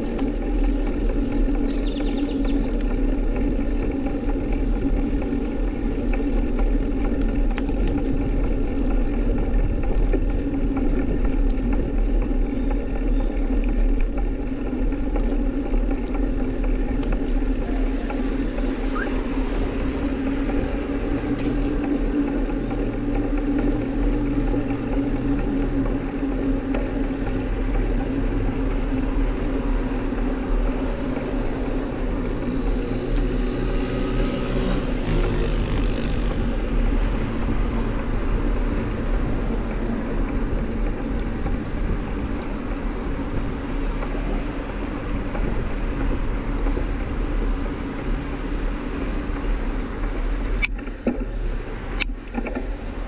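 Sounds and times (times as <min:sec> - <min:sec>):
bicycle ride rumble: 0:00.0 - 0:53.0.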